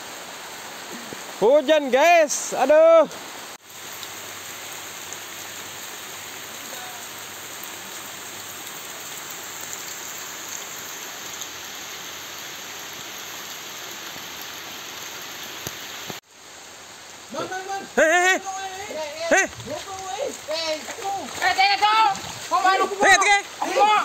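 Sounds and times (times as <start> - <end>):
rain on stream and leaves: 0.0 - 24.0.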